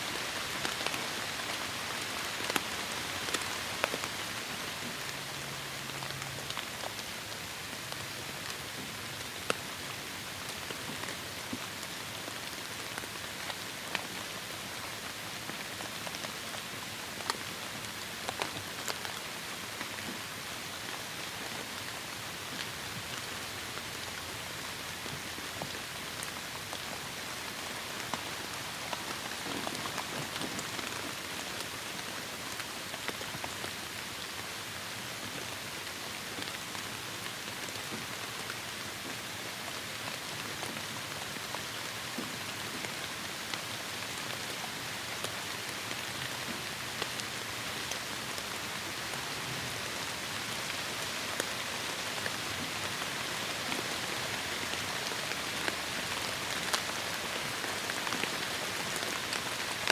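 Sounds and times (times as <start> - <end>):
raindrops striking surfaces: 0.1 - 59.9
heavy rain falling: 10.3 - 59.9.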